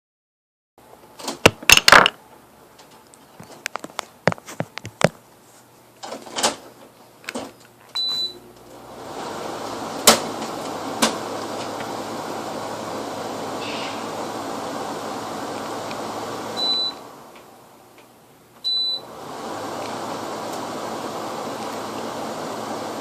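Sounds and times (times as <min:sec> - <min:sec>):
air conditioner fan rushing: 0:00.8 - 0:01.5, 0:02.2 - 0:23.0.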